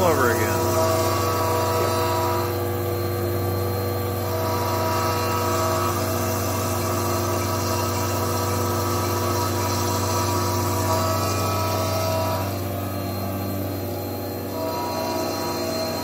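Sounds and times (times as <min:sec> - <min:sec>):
milling machine humming and whining: 0:00.0 - 0:16.0.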